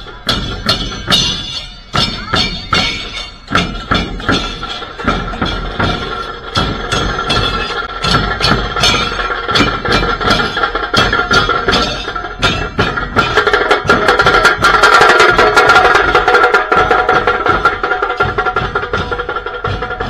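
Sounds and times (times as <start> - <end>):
hand cymbals clashing: 0.0 - 20.0
large drums beaten with sticks: 0.0 - 20.0.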